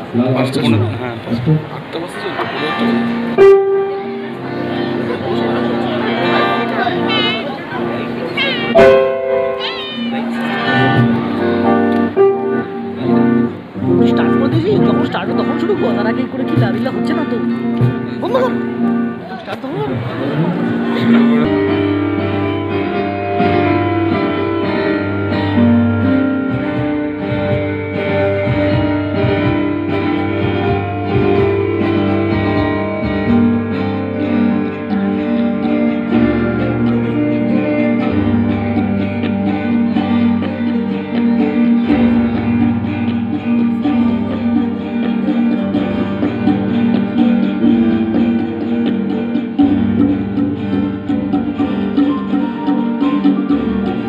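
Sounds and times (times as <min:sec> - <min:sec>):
electric guitar: 0:00.0 - 0:54.0
electronic keyboards: 0:00.0 - 0:54.0
tabla playing: 0:08.4 - 0:54.0.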